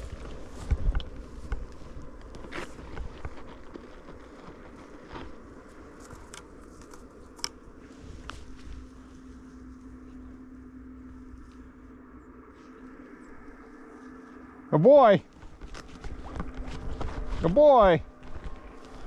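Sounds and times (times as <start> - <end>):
faint steady hum: 0.0 - 19.0
footsteps through dry grass: 0.0 - 19.0.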